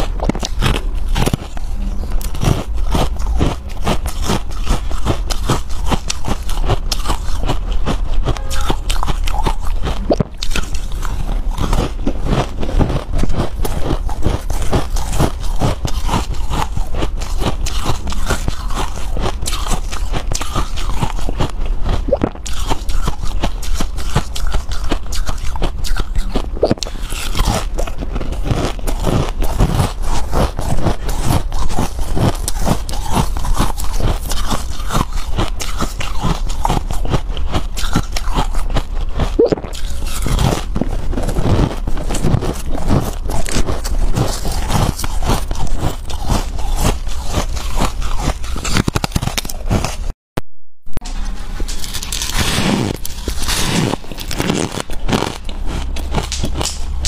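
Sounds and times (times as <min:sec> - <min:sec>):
person crunching ice: 0:00.0 - 0:50.1, 0:51.6 - 0:57.0.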